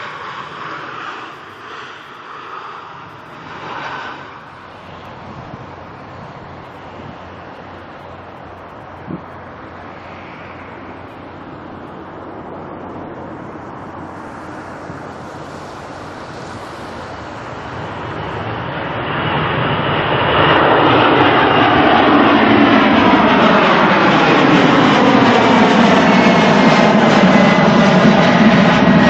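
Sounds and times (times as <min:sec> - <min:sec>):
jet engines rushing: 0:00.0 - 0:29.0.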